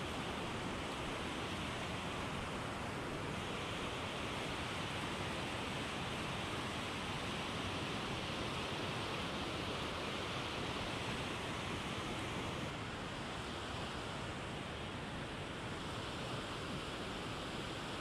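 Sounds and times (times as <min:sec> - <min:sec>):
whitewater rushing through dam: 0:00.0 - 0:18.0.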